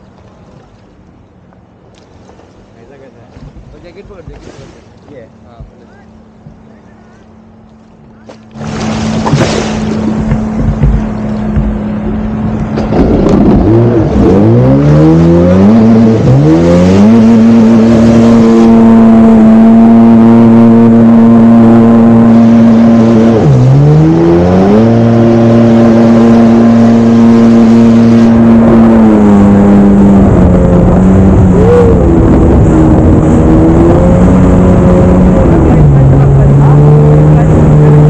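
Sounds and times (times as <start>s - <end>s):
jet ski engine running: 0.0s - 38.0s.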